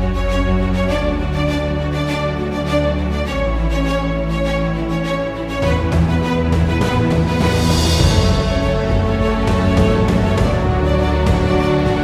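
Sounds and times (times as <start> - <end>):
sustained music chords: 0.0 - 12.0.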